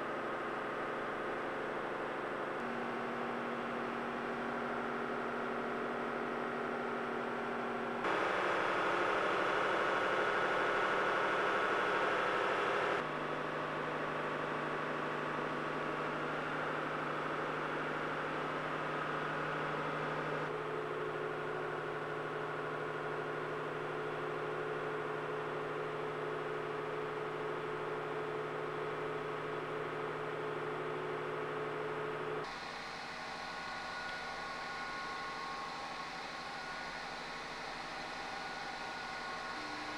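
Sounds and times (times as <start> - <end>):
machine hum with hiss: 0.0 - 39.9.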